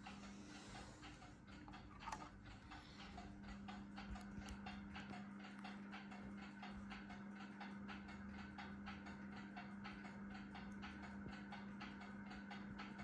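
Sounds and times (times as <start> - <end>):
ceiling fan motor hum: 0.0 - 13.0
fan ticking: 0.0 - 13.0.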